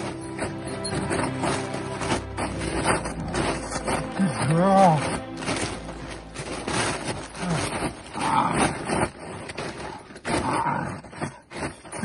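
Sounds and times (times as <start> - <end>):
plastic tarp crinkling: 0.0 - 10.9.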